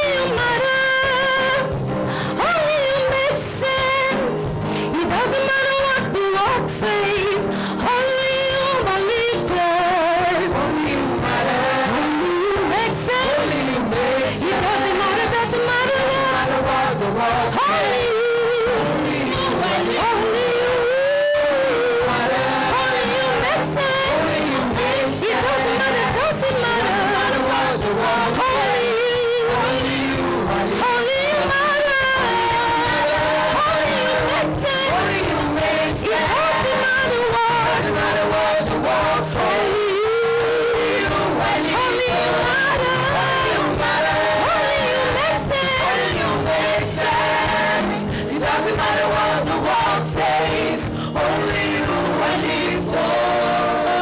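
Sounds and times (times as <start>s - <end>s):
instrumental accompaniment: 0.0s - 54.0s
choir singing: 7.9s - 54.0s.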